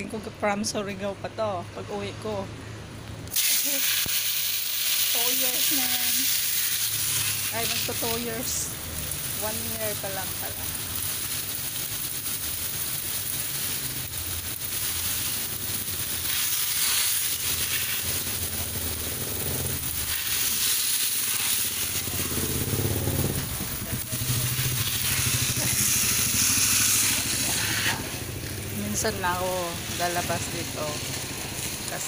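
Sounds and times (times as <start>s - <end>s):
hose nozzle spraying water: 3.3s - 32.0s.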